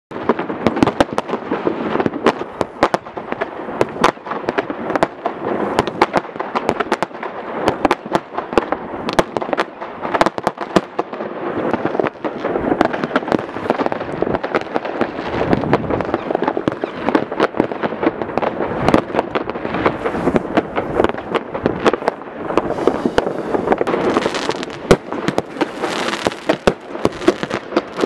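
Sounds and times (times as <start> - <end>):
distant fireworks explosions: 0.1 - 28.0
fireworks sharp bangs: 0.1 - 28.0.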